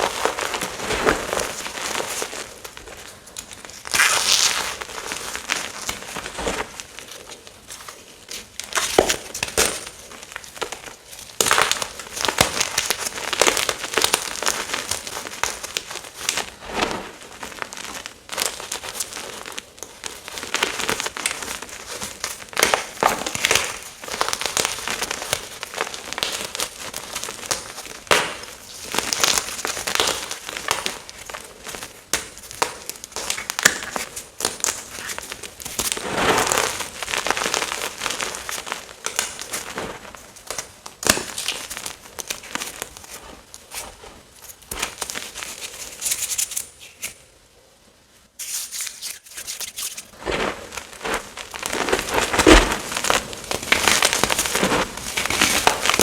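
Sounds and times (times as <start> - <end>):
chalk crunching and crackling: 0.0 - 47.2, 48.4 - 56.0.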